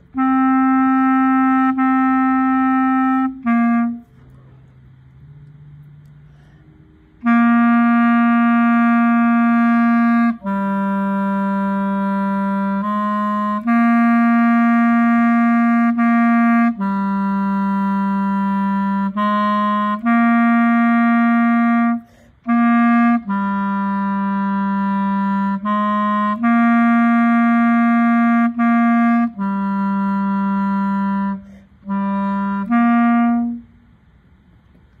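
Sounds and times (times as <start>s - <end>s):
solo clarinet playing: 0.0s - 4.4s, 6.0s - 34.0s.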